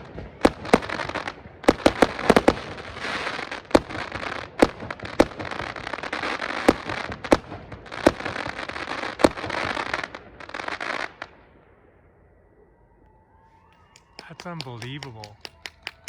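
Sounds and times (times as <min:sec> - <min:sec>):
fireworks crackling: 0:00.0 - 0:11.4, 0:13.6 - 0:16.0
fireworks bangs: 0:00.0 - 0:11.5, 0:13.0 - 0:16.0.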